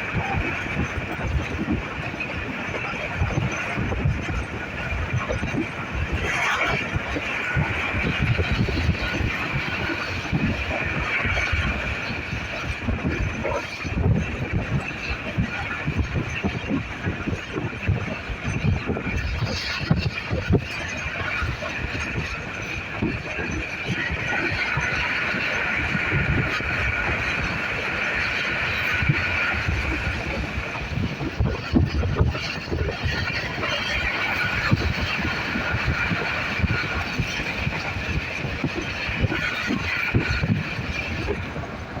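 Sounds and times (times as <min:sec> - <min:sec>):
train rolling rumble: 0:00.0 - 0:42.0.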